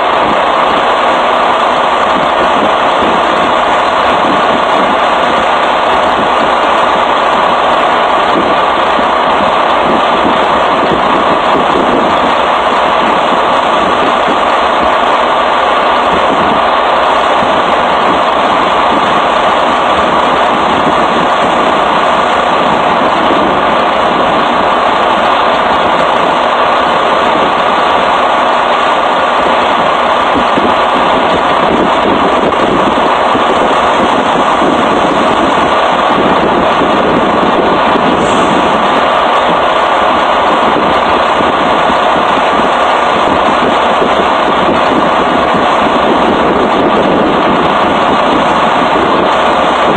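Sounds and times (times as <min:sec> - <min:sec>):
engine idling loudly: 0:00.0 - 0:49.9.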